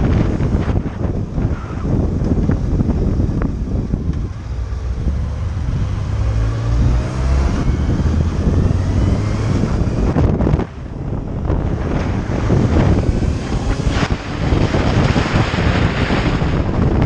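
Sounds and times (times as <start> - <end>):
motorcycle engine accelerating: 0.0 - 17.0
wind noise on microphone: 0.0 - 17.0.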